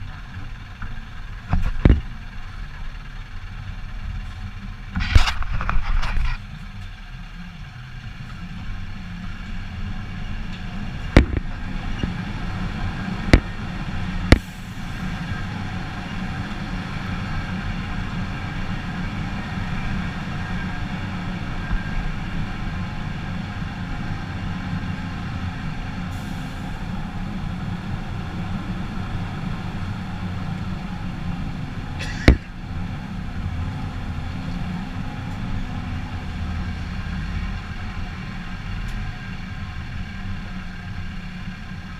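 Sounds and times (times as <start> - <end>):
truck diesel engine rumbling: 0.0 - 41.9.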